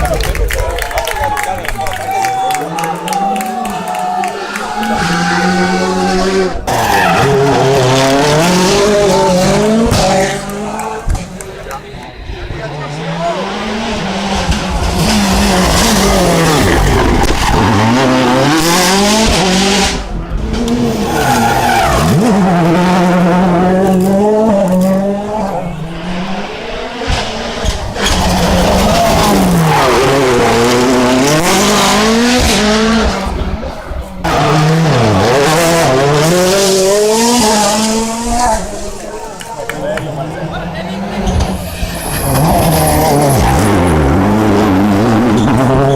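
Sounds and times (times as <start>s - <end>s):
rally car engines revving: 1.2s - 45.9s.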